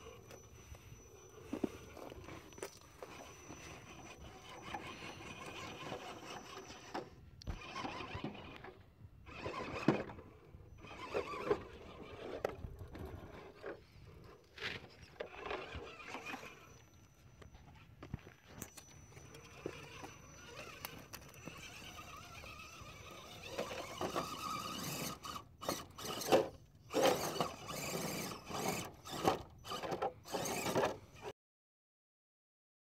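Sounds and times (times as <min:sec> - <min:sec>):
electric motor and gearbox whining: 0:00.0 - 0:31.3
tires scrabbling on rock: 0:00.2 - 0:16.9, 0:17.5 - 0:31.3.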